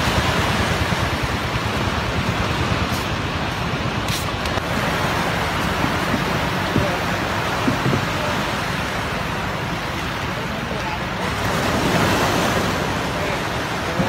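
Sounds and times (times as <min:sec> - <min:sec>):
surf breaking on a beach: 0:00.0 - 0:14.0.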